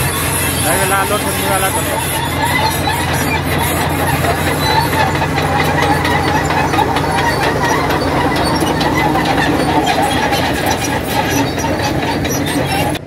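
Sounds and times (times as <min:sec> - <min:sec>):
diesel engine drone: 0:00.0 - 0:13.0
steel tracks clattering: 0:00.0 - 0:13.0.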